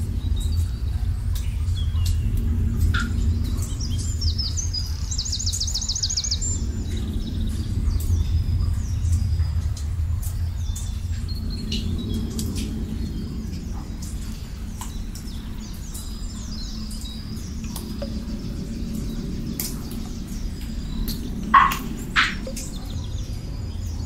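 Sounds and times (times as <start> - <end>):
low rumble of ambience: 0.0 - 24.0
small birds chirping: 0.0 - 24.0.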